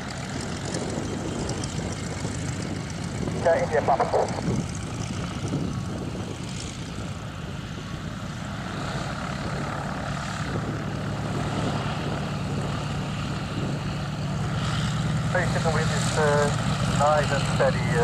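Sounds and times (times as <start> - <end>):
biplane engine idling: 0.0 - 18.0.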